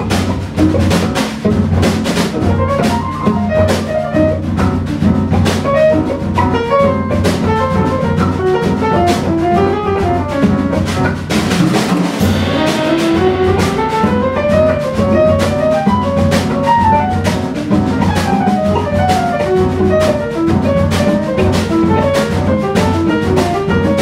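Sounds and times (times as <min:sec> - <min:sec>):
drum kit playing: 0:00.0 - 0:24.0
piano playing: 0:00.0 - 0:24.0.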